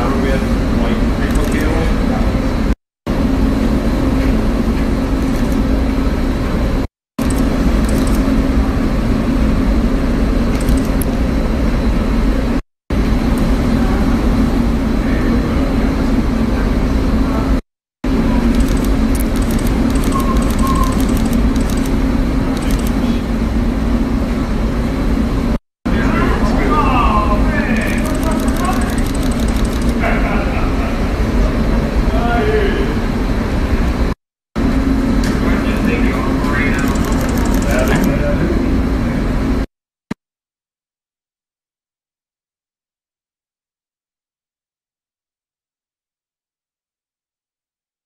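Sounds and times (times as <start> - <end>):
loud rumble and hum: 0.0 - 39.7.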